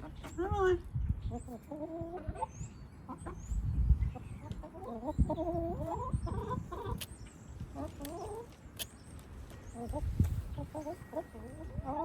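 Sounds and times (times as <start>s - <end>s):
hens clucking: 0.0s - 3.5s, 4.1s - 8.6s, 9.8s - 12.0s.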